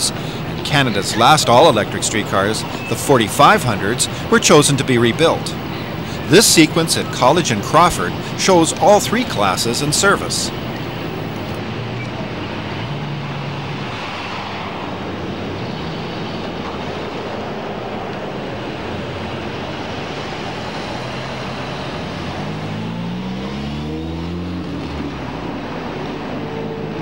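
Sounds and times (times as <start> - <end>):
cars driving past: 0.0 - 27.0
vehicle engine accelerating: 0.0 - 27.0.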